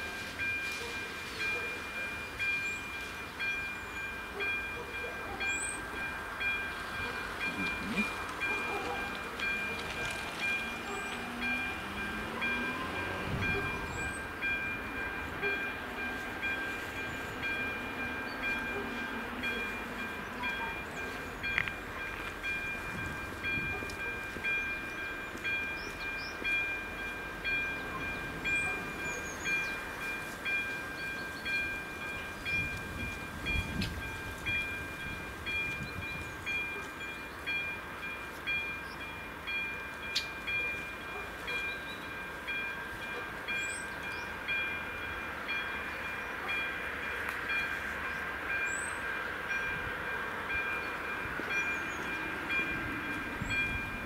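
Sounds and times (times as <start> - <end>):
level crossing bell ringing: 0.0 - 54.0.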